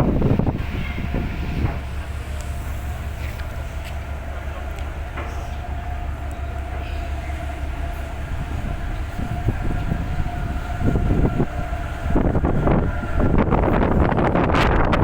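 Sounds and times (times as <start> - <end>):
rushing noise: 0.0 - 15.0
ship engine droning: 0.0 - 15.0.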